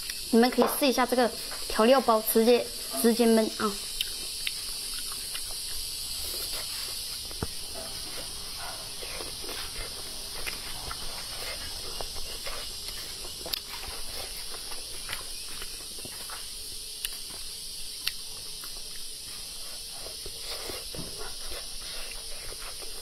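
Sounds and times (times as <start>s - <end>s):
person chewing: 0.0s - 0.3s, 3.6s - 23.0s
steady high hiss: 0.0s - 23.0s.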